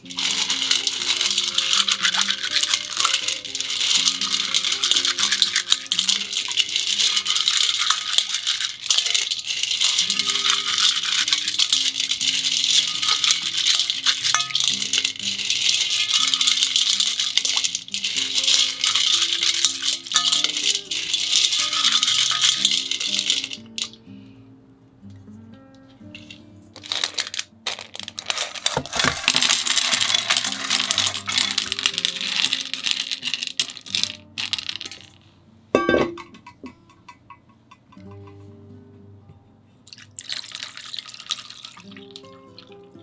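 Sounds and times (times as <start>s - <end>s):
clam shells rattling in water: 0.0s - 24.0s, 26.2s - 35.2s, 39.9s - 42.3s
soft background music: 0.0s - 43.0s.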